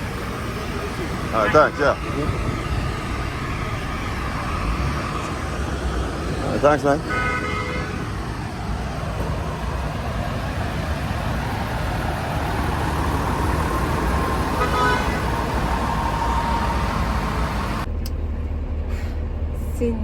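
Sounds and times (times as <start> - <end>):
truck engine rumbling: 0.0 - 20.0.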